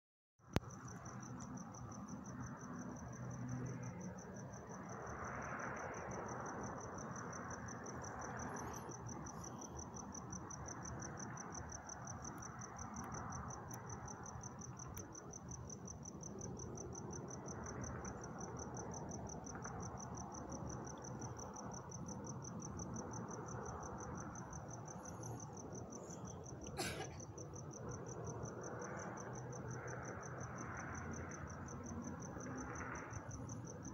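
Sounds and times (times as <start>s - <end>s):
cricket chirping: 0.4s - 33.9s.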